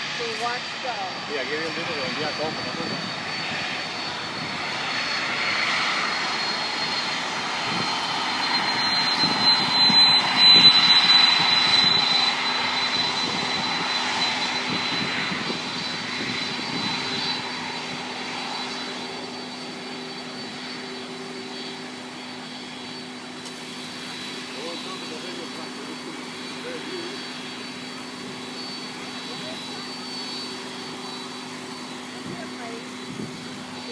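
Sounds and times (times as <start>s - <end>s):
airplane engines roaring at takeoff: 0.0s - 33.9s.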